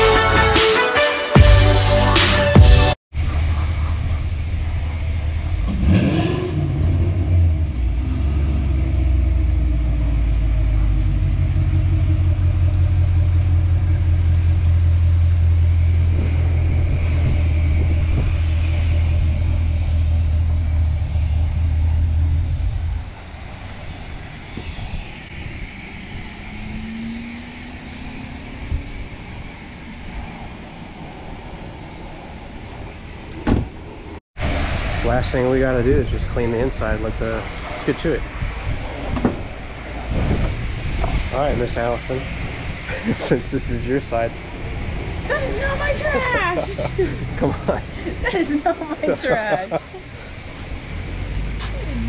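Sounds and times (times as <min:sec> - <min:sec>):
engine revving: 0:01.4 - 0:31.2, 0:34.4 - 0:52.0
car engine rumbling: 0:03.1 - 0:52.0.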